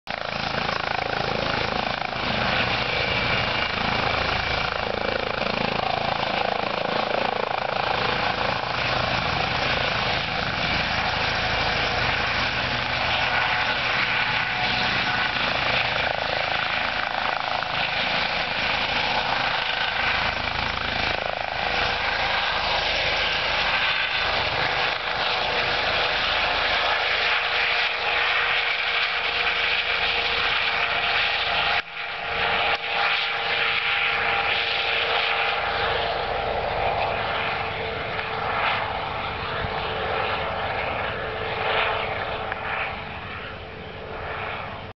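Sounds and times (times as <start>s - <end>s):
helicopter rotor noise: 0.1s - 44.9s
helicopter turbine whine: 0.1s - 44.9s.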